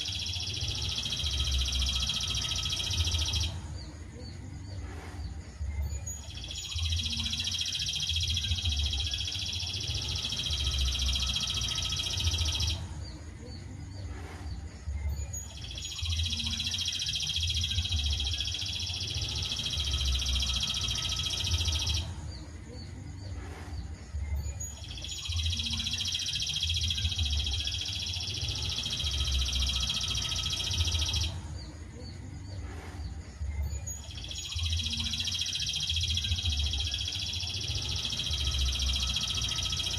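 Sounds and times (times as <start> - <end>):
songbird high continuous trill: 0.0 - 39.9.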